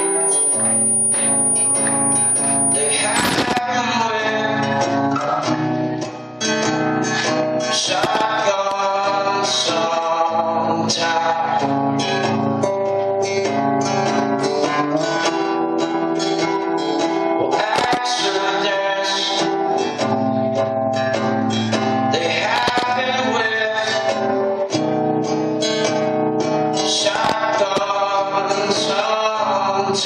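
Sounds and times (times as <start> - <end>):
man singing: 0.0 - 16.5, 17.3 - 20.2, 21.7 - 24.9, 26.6 - 30.0
strummed acoustic guitar: 0.0 - 30.0.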